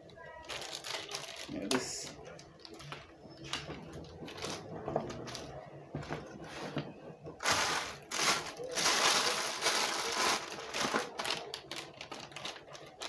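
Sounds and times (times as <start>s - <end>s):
plastic bag crinkling: 0.3s - 5.6s, 6.2s - 13.0s.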